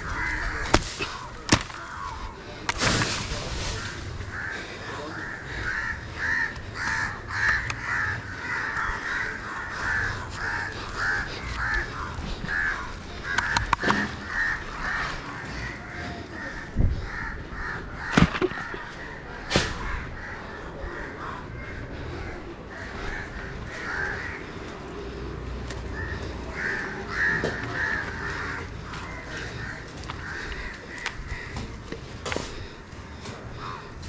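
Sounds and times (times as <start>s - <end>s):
crows cawing: 0.0s - 34.0s.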